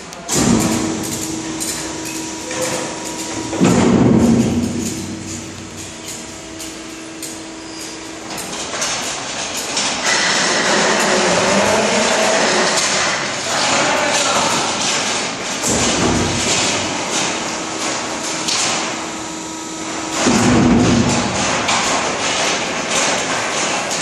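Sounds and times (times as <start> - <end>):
hydraulic power unit whirring: 0.0 - 24.0.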